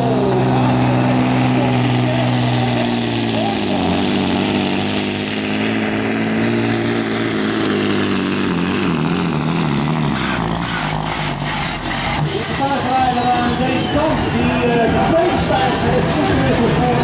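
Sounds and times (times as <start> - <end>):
truck diesel engine at full throttle: 0.0 - 17.0.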